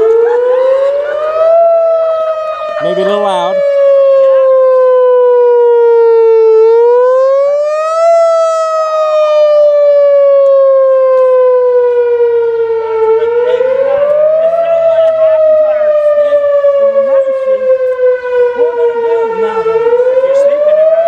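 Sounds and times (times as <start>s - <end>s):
warning siren wailing: 0.0s - 21.0s.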